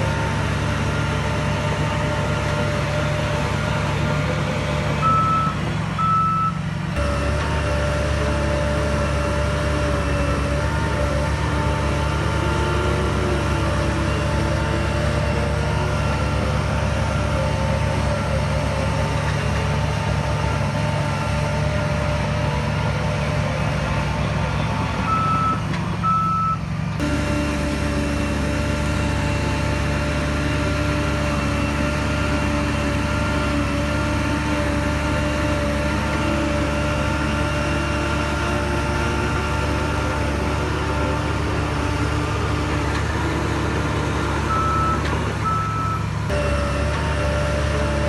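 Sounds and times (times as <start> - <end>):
heavy diesel machinery running: 0.0 - 48.0.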